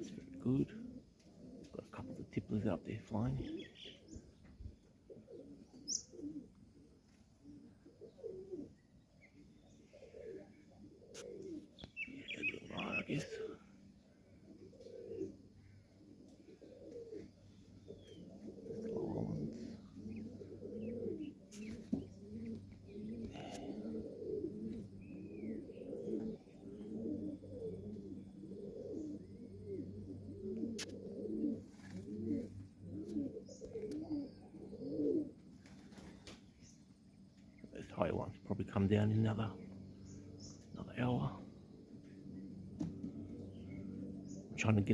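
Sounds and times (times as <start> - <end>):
pigeons cooing: 0.0 - 44.9.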